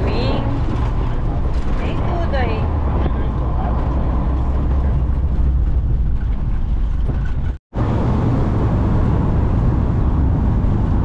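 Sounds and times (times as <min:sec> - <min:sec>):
road noise: 0:00.0 - 0:11.0
van engine rumble: 0:00.0 - 0:11.0.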